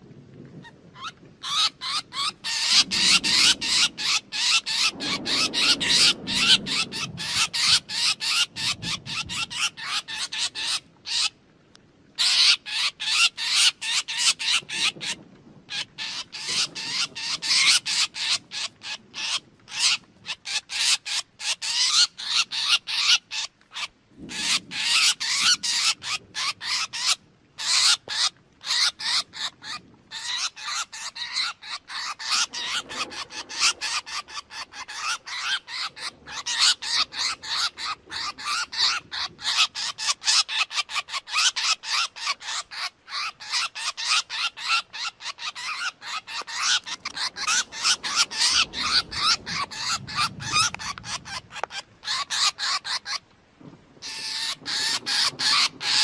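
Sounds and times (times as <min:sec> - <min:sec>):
bird harsh chattering call: 0:01.0 - 0:11.3, 0:12.2 - 0:53.2, 0:54.0 - 0:56.0.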